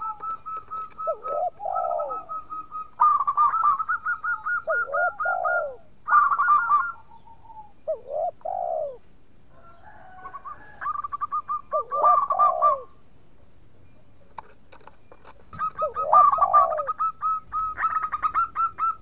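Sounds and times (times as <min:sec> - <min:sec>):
dove cooing song: 0:00.0 - 0:13.1, 0:14.4 - 0:19.0.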